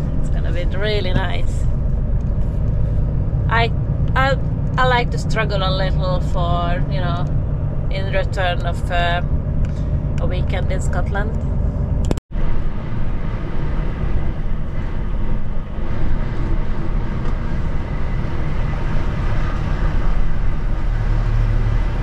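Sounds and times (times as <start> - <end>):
diesel truck engine rumble: 0.0 - 22.0
road noise: 0.0 - 22.0.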